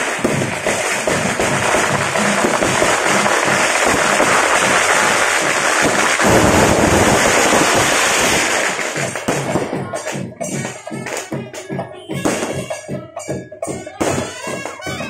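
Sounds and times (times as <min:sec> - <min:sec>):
drum-led music: 0:00.0 - 0:15.0
firecrackers crackling: 0:00.0 - 0:15.0.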